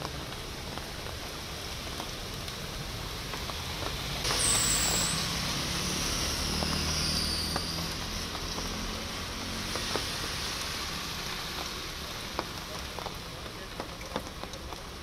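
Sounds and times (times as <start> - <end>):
cars spraying through floodwater: 0.0 - 15.0
rain hiss: 0.0 - 15.0.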